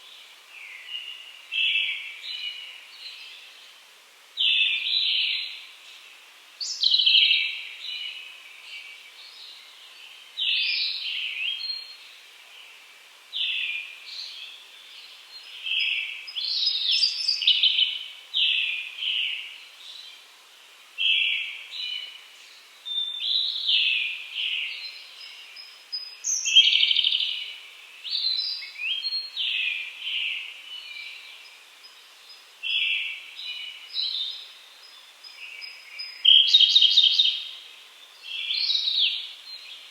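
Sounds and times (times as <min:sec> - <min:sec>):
songbirds singing with echo: 0:00.0 - 0:39.9.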